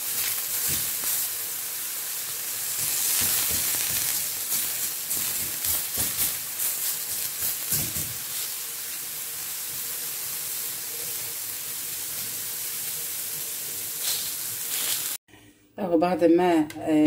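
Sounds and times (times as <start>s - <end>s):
eggplant slices sizzling in pan: 0.0s - 15.2s.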